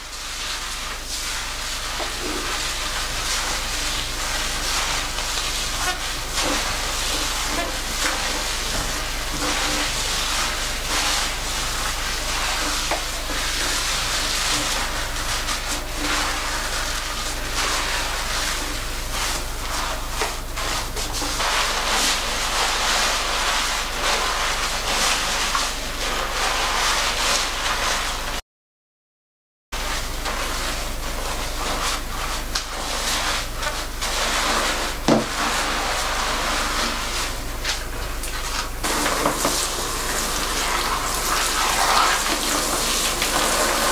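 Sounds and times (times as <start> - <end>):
hands scrubbing lather in wet hair: 0.1 - 28.4, 29.8 - 43.9.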